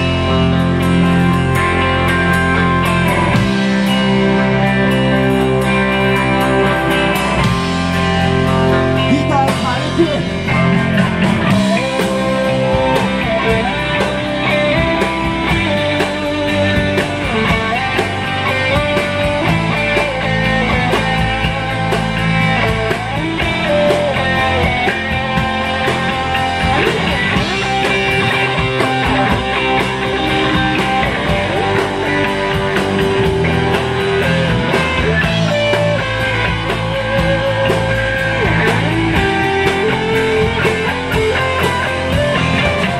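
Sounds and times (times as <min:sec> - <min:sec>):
bass guitar: 0:00.0 - 0:42.9
drums: 0:00.0 - 0:42.9
electric guitar bending notes: 0:00.0 - 0:42.9.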